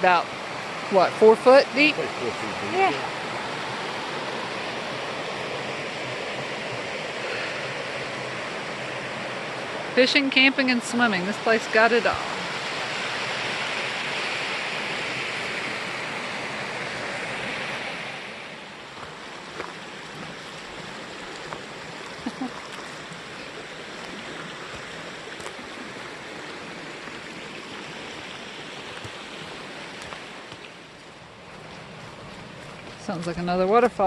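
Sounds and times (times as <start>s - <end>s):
creek and waterfall rushing: 0.0s - 34.0s.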